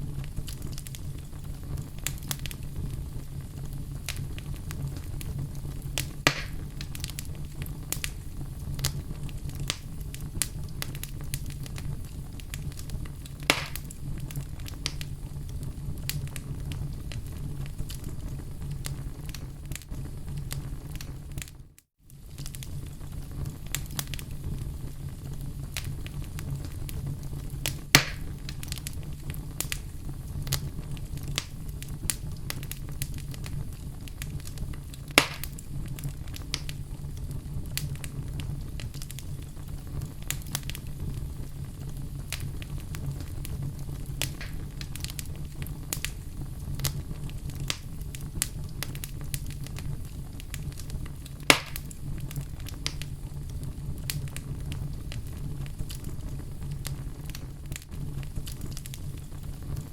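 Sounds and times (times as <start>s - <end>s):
low rumble of flames: 0.0s - 59.9s
sharp fire pops: 0.0s - 59.9s
wood fire crackling: 0.0s - 59.9s.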